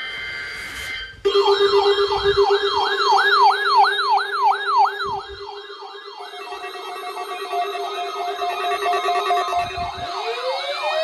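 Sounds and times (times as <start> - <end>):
steady alarm tones: 0.0 - 11.0
sweeping siren tone: 0.0 - 11.0
steady beeping: 1.0 - 11.0.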